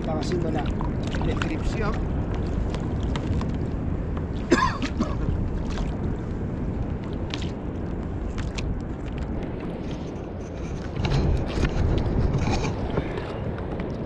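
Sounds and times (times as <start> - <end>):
water noise around kayak: 0.0 - 14.0
wind noise: 0.0 - 14.0.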